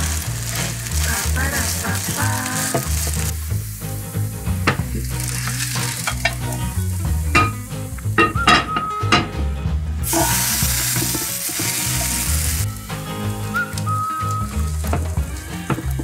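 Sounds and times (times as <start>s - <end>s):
potato sizzling in a pan: 0.0s - 8.5s, 10.0s - 16.0s.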